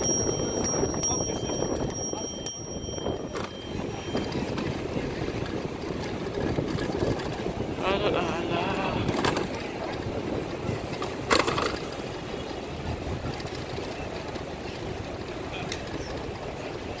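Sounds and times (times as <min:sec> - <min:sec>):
wind on microphone: 0:00.0 - 0:15.2
city traffic rumble: 0:00.0 - 0:17.0.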